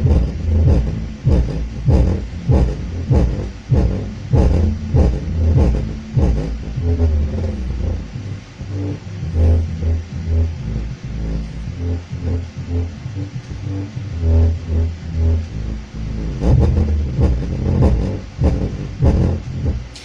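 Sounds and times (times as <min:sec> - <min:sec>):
distorted bass-heavy music: 0:00.0 - 0:20.0.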